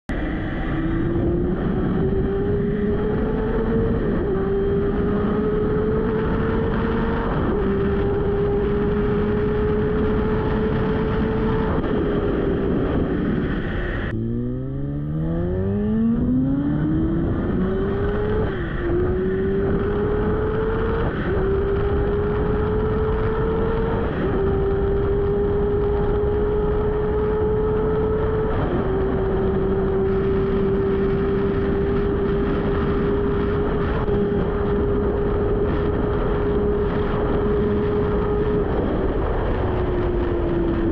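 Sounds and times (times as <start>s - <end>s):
motorcycle engine accelerating: 0.1s - 40.9s.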